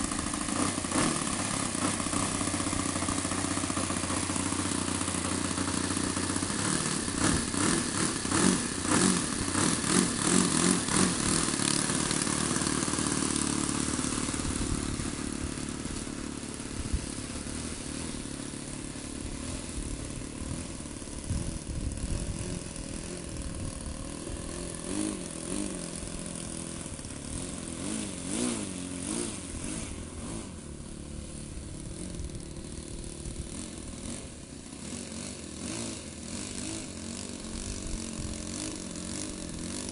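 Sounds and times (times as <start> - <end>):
model airplane engine running: 0.0 - 39.9.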